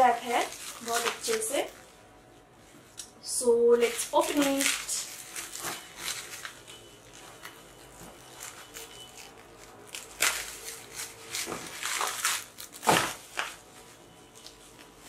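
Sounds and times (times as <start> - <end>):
bubble wrap crinkling: 0.0 - 2.9, 3.6 - 15.0.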